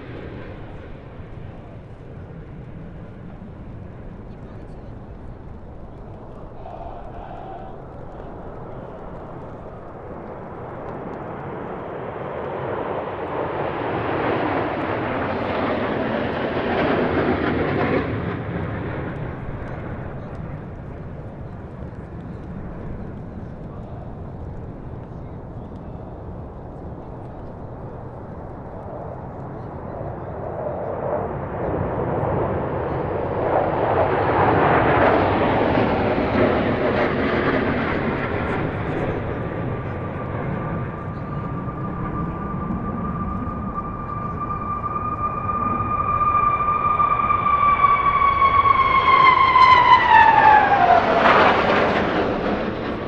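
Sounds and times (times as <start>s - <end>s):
military aircraft roaring overhead: 0.0s - 53.0s.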